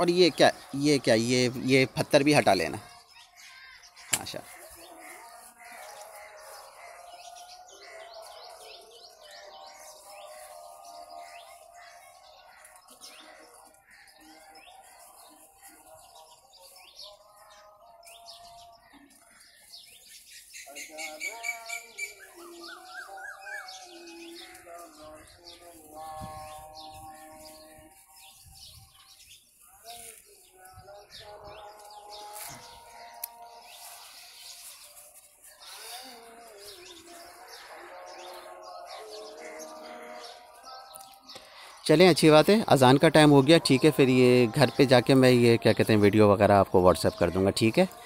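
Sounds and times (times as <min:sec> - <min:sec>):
call to prayer sung: 0:00.0 - 0:48.0
small birds chirping: 0:00.0 - 0:48.0.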